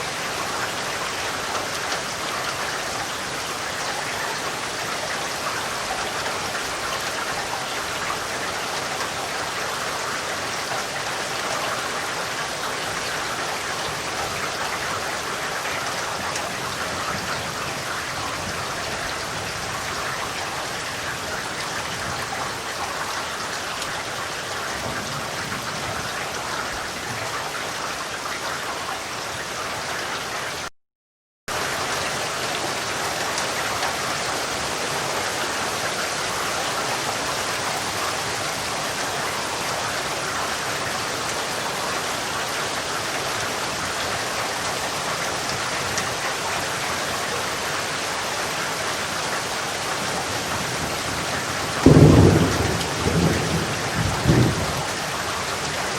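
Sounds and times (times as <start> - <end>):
steady rain falling: 0.0 - 30.7, 31.5 - 55.9.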